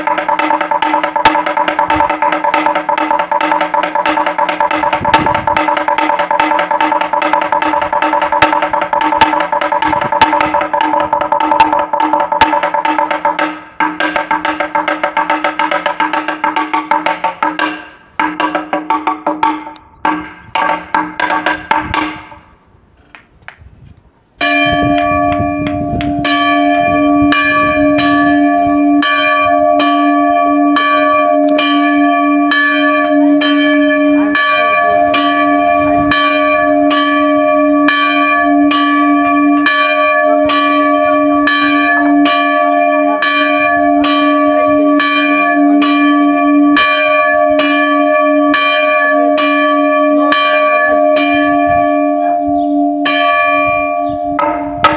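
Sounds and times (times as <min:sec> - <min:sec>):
church bell ringing: 0:00.0 - 0:22.5, 0:24.4 - 0:54.9.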